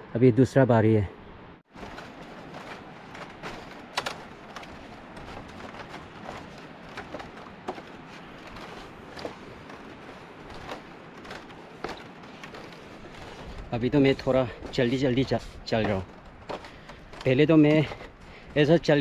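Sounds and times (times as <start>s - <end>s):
footsteps on bamboo walkway: 1.6s - 19.0s.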